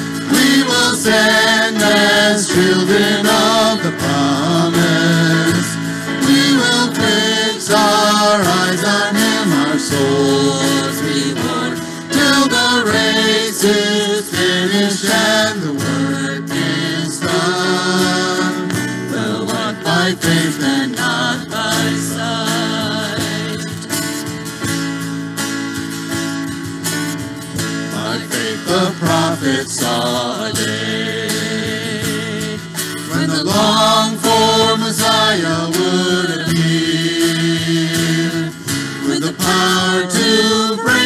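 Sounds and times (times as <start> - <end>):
electric bass: 0.0 - 41.0
keyboard: 0.0 - 41.0
strummed acoustic guitars: 0.0 - 41.0
person singing: 0.1 - 24.1, 27.8 - 41.0.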